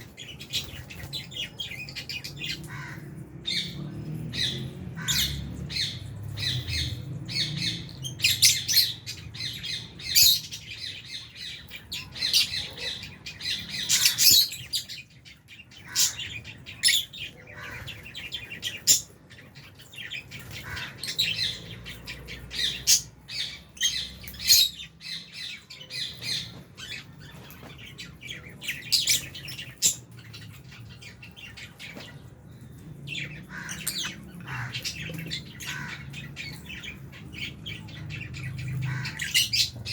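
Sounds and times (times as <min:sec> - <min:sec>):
lovebirds squawking and chirping: 0:00.0 - 0:39.9.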